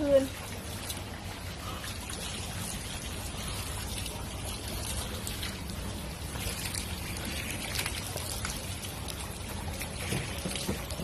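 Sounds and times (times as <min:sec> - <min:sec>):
water running from hose and splashing: 0:00.0 - 0:11.0.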